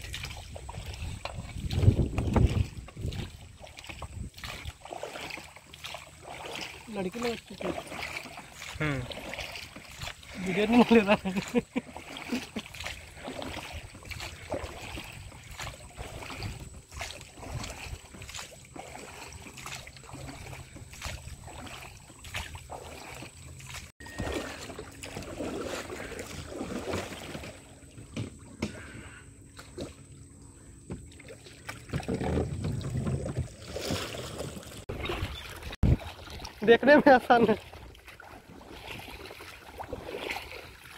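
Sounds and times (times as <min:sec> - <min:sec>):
oars knocking against boat: 0:00.0 - 0:40.9
water splashing: 0:00.0 - 0:40.9.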